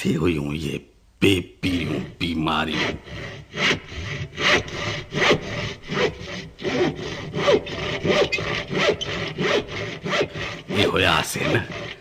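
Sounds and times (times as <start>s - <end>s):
hand saw cutting wood: 1.7s - 12.0s.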